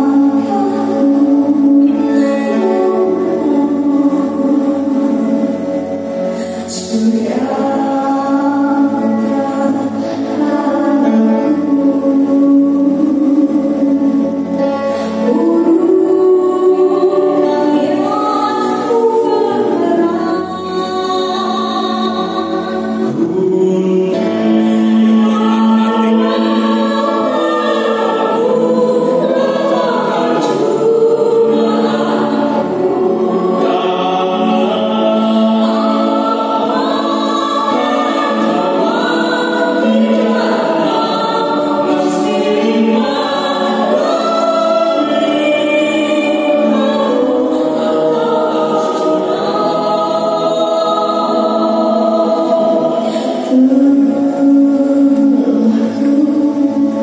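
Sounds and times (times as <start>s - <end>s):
women singing together: 0.0s - 57.0s.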